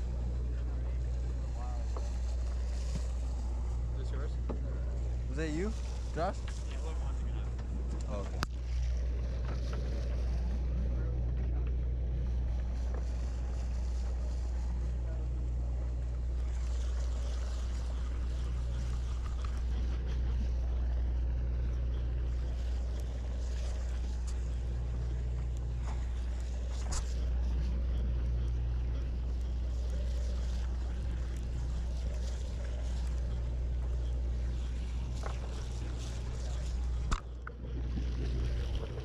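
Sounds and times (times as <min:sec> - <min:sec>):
boat engine humming: 0:00.0 - 0:39.0
hiss of wind and water: 0:00.0 - 0:39.0.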